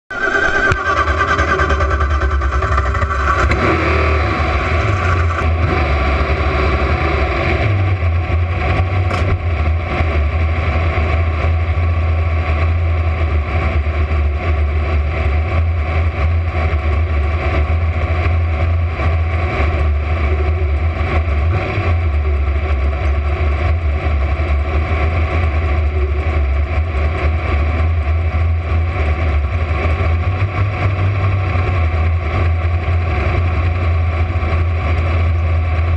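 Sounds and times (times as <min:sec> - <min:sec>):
car engine running loud and deep: 0:00.1 - 0:35.9.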